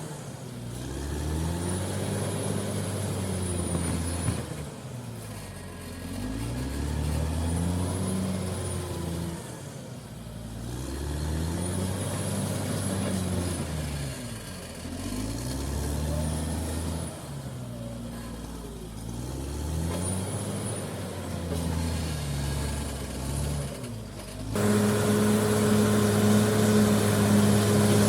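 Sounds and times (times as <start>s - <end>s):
bulldozer diesel engine working: 0.0s - 28.0s.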